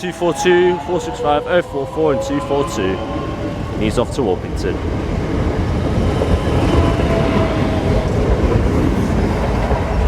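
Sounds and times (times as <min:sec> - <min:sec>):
train wheels on rail: 0:00.0 - 0:10.0.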